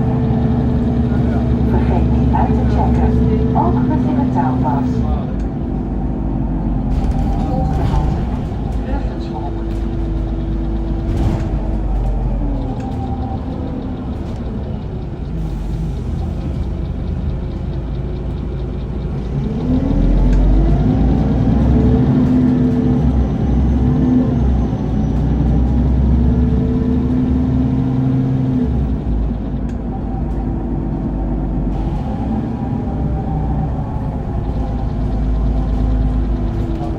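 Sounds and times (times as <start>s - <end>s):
bus engine accelerating: 0.0s - 36.9s.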